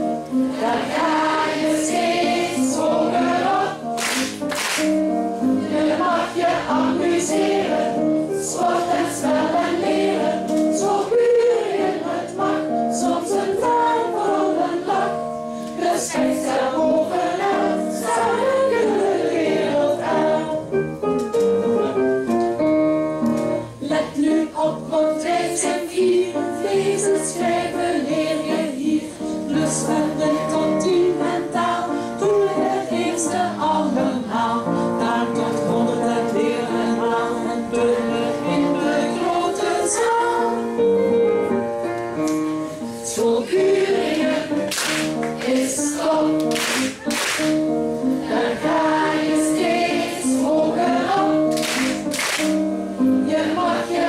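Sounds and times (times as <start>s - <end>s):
children's choir singing: 0.0s - 20.8s, 23.8s - 41.0s, 42.9s - 54.0s.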